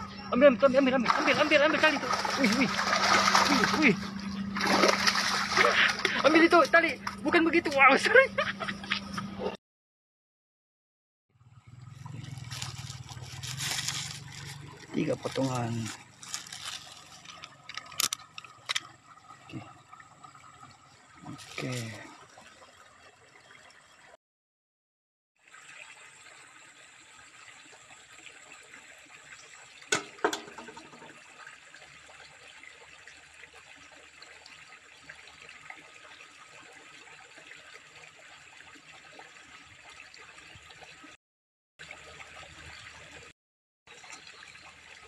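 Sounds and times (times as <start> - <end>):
water trickling in a drain: 0.4 - 8.4, 11.4 - 24.2, 25.4 - 41.2, 41.8 - 43.3, 43.9 - 45.0.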